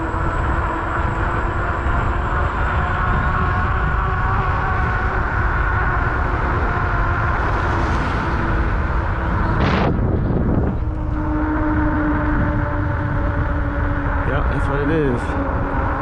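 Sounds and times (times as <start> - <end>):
electric motor whine: 0.0 - 16.0
wind rumbling on microphone: 0.0 - 16.0.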